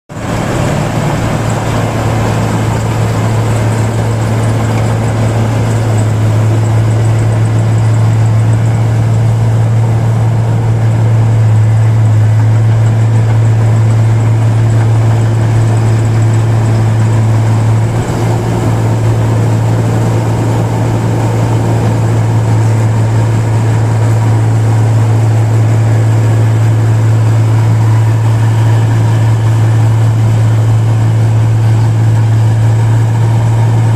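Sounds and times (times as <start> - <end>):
rice machine humming: 0.1 - 33.9.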